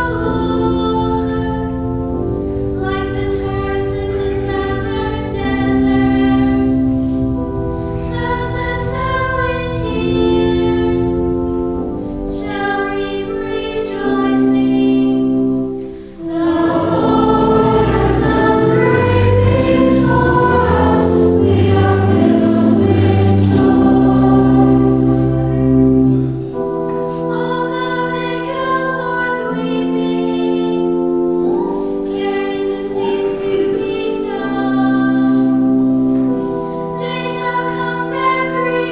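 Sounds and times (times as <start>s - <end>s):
cantors singing a hymn: 0.0s - 38.9s.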